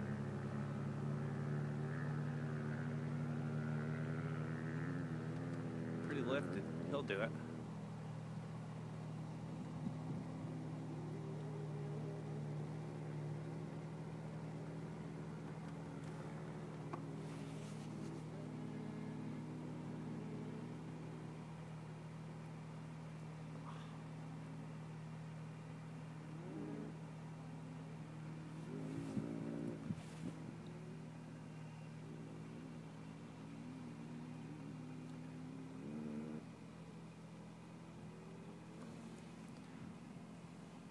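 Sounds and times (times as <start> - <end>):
distant vehicle engine hum: 0.0 - 40.9.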